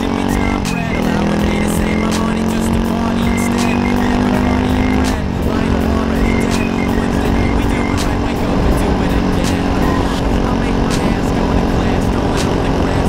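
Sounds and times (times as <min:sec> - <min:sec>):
two-stroke engine running: 0:00.0 - 0:13.0.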